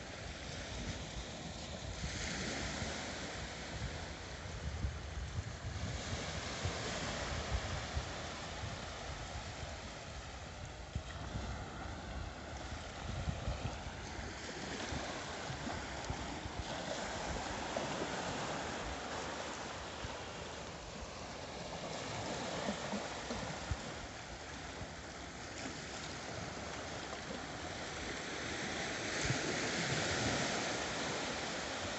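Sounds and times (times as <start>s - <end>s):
waves washing over rocks: 0.1s - 31.9s.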